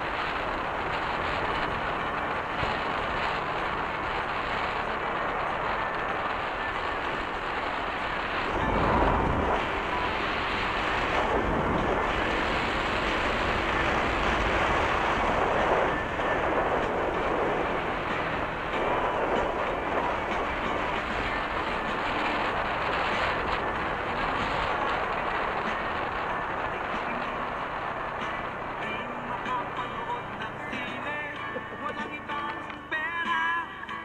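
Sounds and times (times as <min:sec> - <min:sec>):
tyres clattering over rumble strips: 0:00.0 - 0:33.2
low wind buffeting: 0:00.0 - 0:33.3
wind and road noise: 0:00.0 - 0:34.0.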